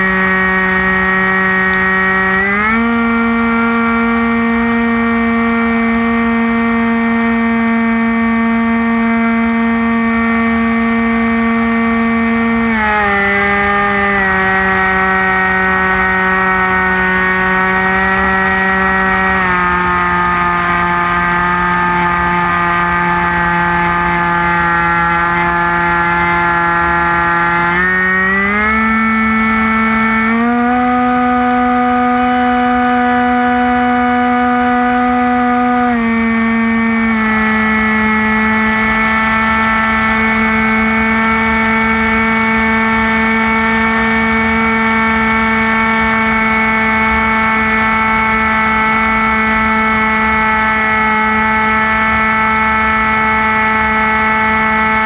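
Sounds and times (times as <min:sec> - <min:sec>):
electric motor and propeller drone: 0:00.0 - 0:55.0.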